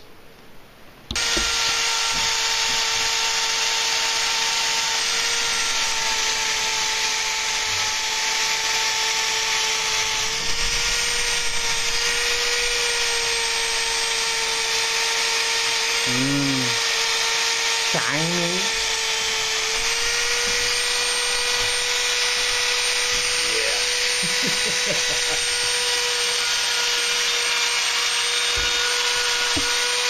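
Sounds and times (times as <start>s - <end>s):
power tool whining: 1.1s - 30.0s.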